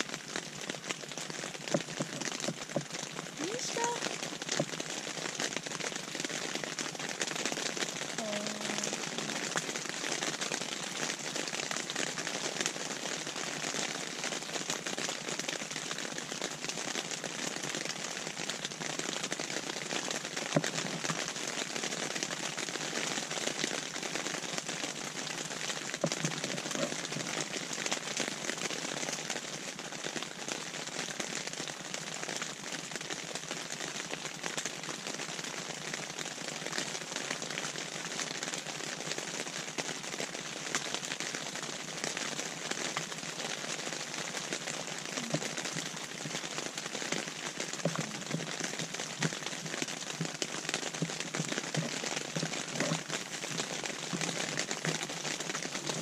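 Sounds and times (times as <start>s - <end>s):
rain on tent fabric: 0.0s - 56.0s.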